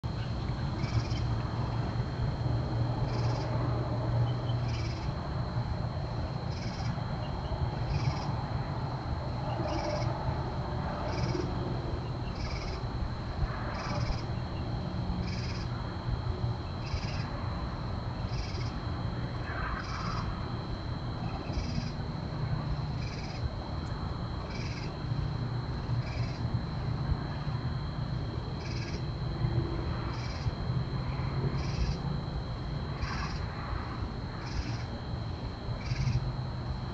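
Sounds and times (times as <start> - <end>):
high-pitched insect whine: 0.0 - 36.9
low hum: 0.0 - 36.9.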